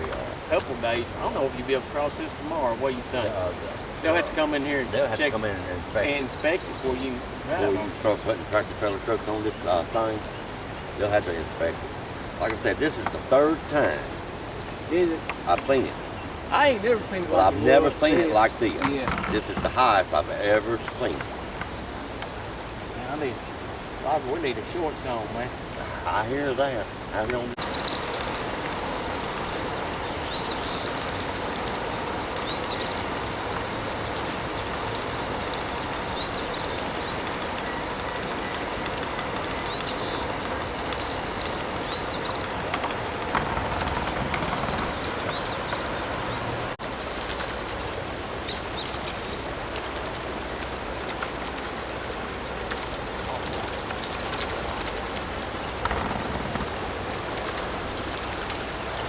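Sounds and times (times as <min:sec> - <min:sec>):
small birds chirping: 0:00.0 - 0:59.0
steady rushing background noise: 0:00.0 - 0:59.0.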